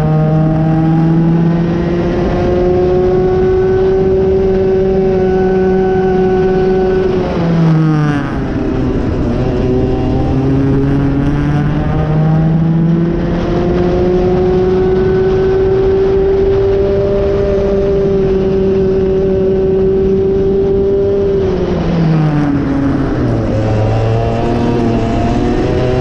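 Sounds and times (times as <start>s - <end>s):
kart engine revving: 0.0s - 26.0s.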